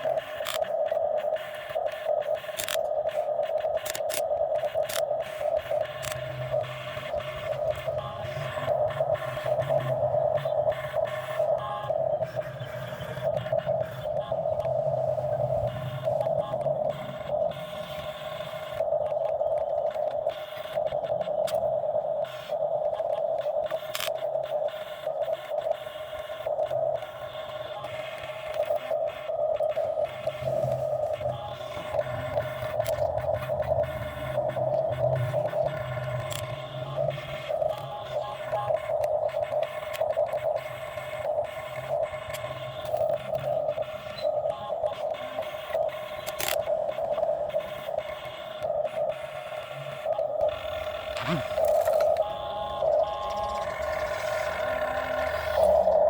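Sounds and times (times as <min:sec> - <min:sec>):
scattered clicks: 0:00.0 - 0:14.8, 0:15.4 - 0:56.0
excavator machine whine: 0:02.4 - 0:22.0, 0:25.1 - 0:56.0.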